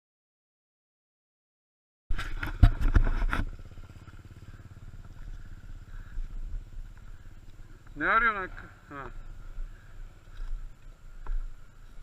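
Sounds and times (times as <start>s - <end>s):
motorcycle engine running: 2.1s - 12.0s.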